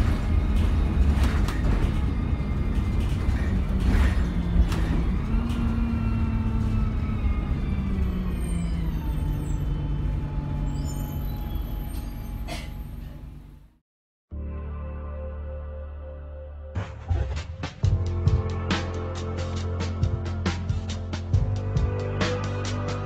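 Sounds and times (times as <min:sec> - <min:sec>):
bus diesel engine drone: 0:00.0 - 0:13.8, 0:17.9 - 0:23.0.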